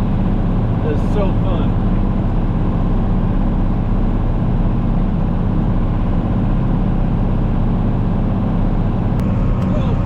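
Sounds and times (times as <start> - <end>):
snow-clearing machine engine humming: 0.0 - 10.0.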